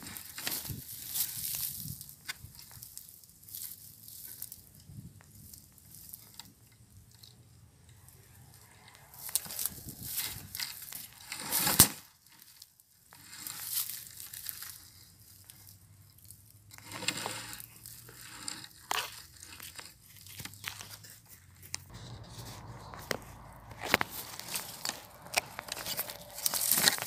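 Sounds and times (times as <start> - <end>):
rustling and crackling: 0.0 - 27.0.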